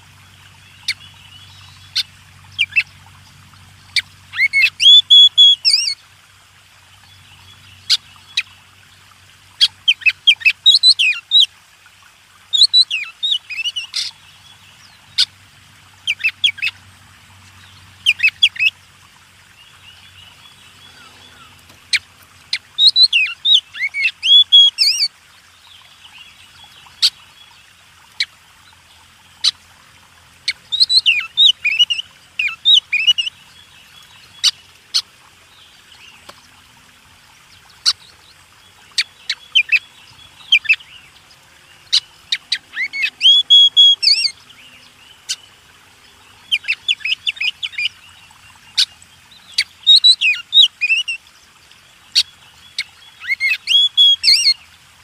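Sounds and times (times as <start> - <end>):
songbird singing: 0.0 - 6.0, 6.8 - 11.5, 12.5 - 54.8.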